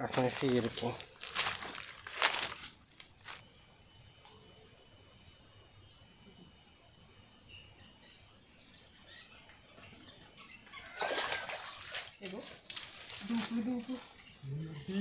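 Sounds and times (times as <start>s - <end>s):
insects high-pitched drone: 0.0s - 15.0s.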